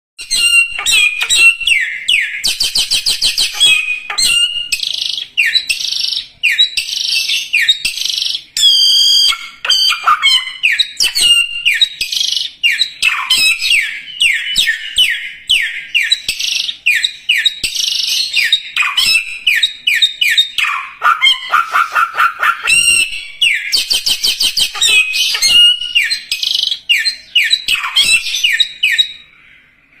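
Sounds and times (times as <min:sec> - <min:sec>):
songbird singing: 0:00.2 - 0:30.0.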